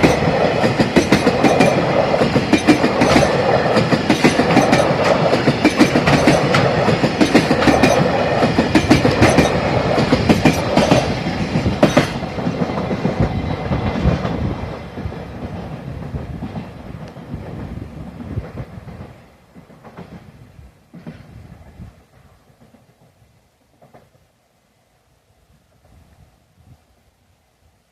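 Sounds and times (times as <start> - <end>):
freight train wheels clattering: 0.0 - 23.2.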